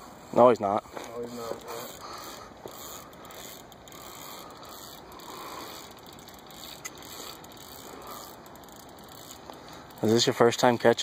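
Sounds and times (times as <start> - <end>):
spinning reel winding under load: 0.4 - 11.0
reel click: 1.4 - 10.3.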